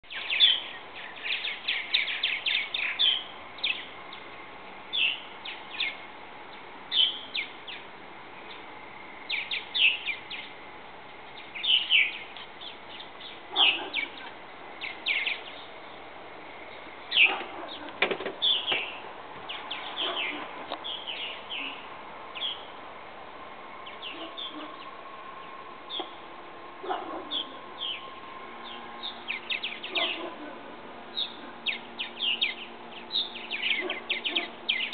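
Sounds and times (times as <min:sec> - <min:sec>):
birds chirping: 0:00.0 - 0:23.0, 0:23.6 - 0:34.9.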